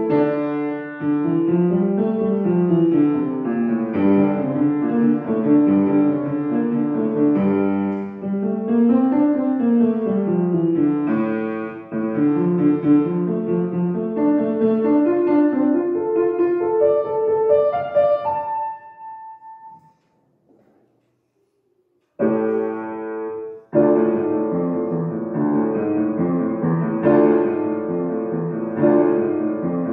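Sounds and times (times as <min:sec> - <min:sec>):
solo piano playing: 0:00.0 - 0:20.0, 0:22.2 - 0:29.9.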